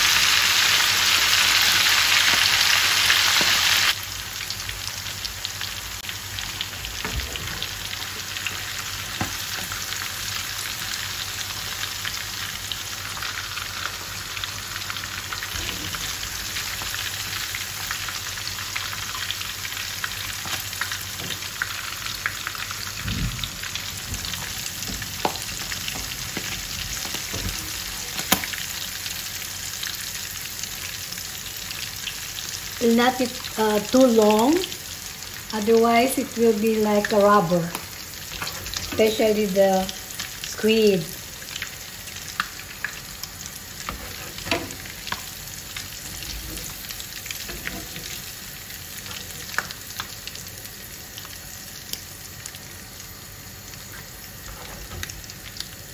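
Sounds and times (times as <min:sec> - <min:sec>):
seafood frying in hot oil: 0:00.0 - 0:55.9.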